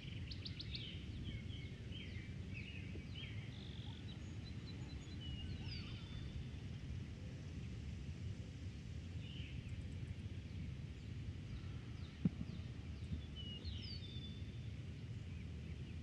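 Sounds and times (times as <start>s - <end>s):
faint bird chirps: 0.0s - 7.5s, 9.2s - 16.0s
wind through grass and trees: 0.0s - 16.0s.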